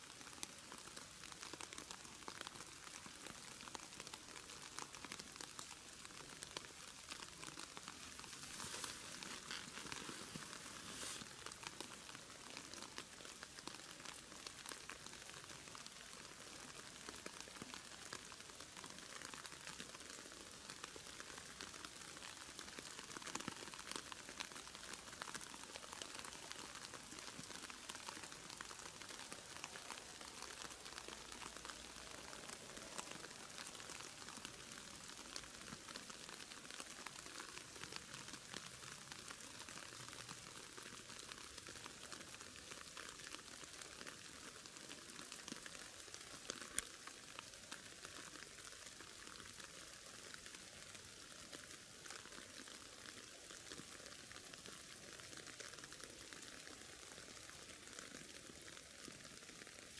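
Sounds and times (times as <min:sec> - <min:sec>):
dry grass crackling against camera: 0:00.0 - 0:59.9.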